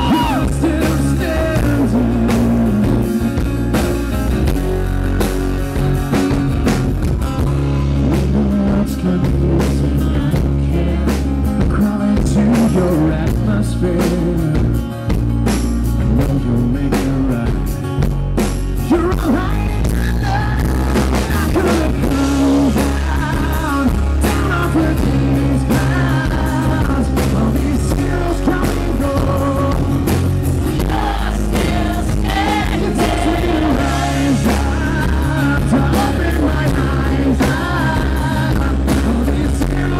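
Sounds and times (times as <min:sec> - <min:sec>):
man singing: 0:00.0 - 0:05.4, 0:06.9 - 0:15.2, 0:16.0 - 0:18.0, 0:18.8 - 0:39.9
acoustic guitars strumming: 0:00.0 - 0:39.9.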